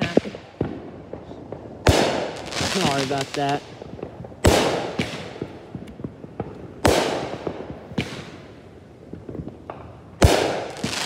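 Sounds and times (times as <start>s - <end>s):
firework booms: 0.0s - 11.0s
firework pops and crackling: 0.0s - 11.0s.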